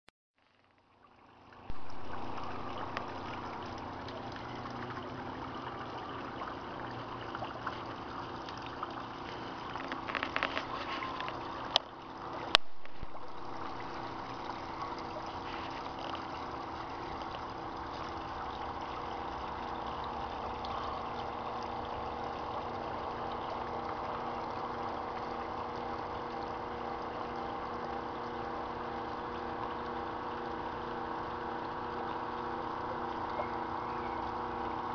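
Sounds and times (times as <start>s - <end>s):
waterfall splashing into a pond: 0.6s - 34.9s.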